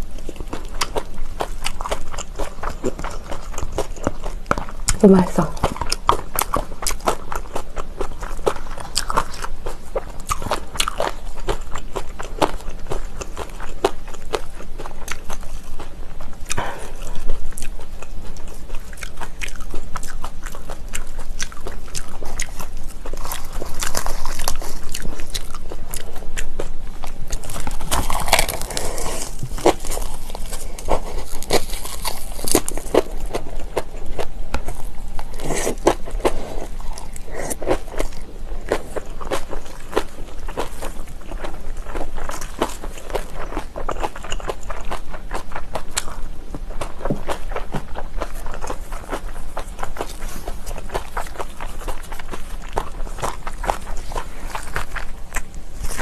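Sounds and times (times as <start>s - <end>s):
crisp crunching of food: 0.0s - 56.0s
wet chewing: 0.0s - 56.0s.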